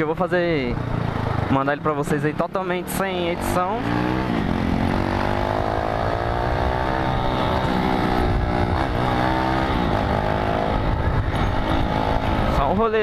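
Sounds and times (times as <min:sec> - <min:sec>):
low wind rumble: 0:00.0 - 0:13.0
motorcycle engine revving: 0:00.6 - 0:13.0.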